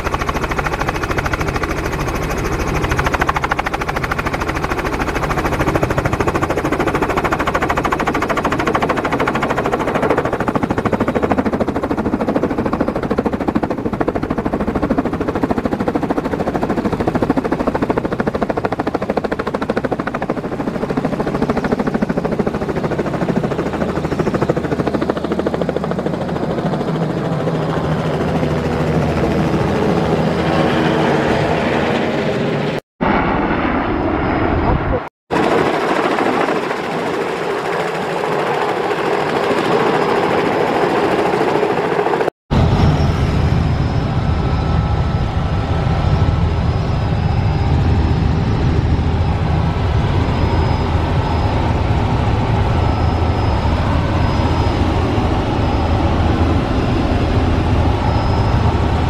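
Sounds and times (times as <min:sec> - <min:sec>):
helicopter engine noise: 0:00.0 - 0:59.0
helicopter rotor blade chop: 0:00.0 - 0:59.0.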